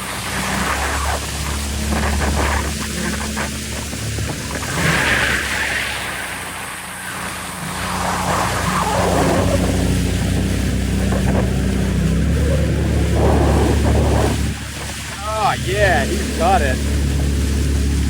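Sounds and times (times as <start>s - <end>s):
rushes of noise: 0.0s - 18.0s
watercraft engine droning: 0.0s - 18.0s.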